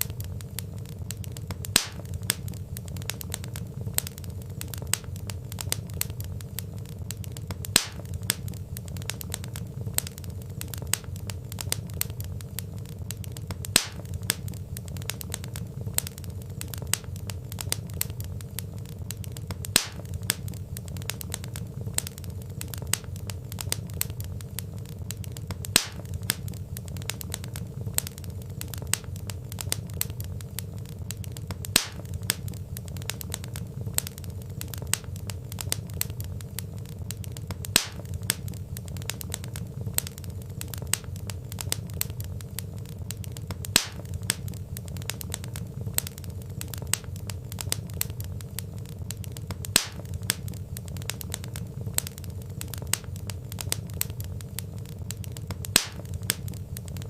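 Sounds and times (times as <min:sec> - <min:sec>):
fire snapping: 0:00.0 - 0:57.0
low steady rumble: 0:00.0 - 0:57.0
wood fire crackling and popping: 0:00.0 - 0:57.0.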